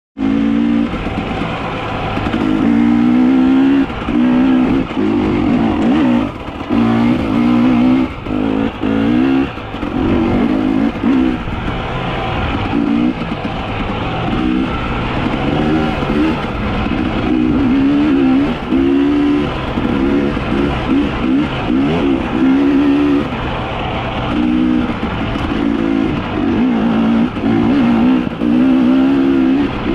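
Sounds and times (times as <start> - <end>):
small engine revving: 0.2 - 29.9.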